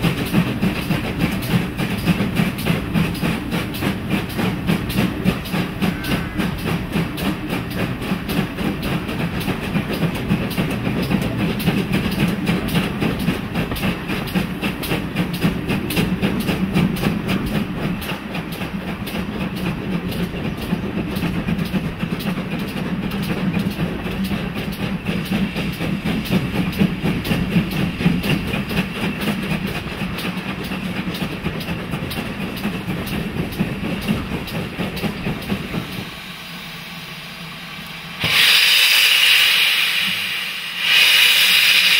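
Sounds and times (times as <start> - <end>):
wheels clattering on rails: 0.0 - 36.2
steam train rhythmic beat: 0.0 - 41.9.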